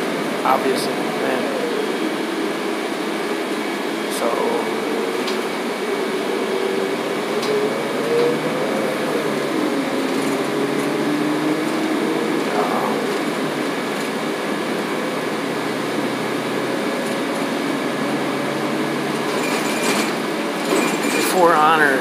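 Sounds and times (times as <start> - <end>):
train running rumble and hiss: 0.0 - 22.0.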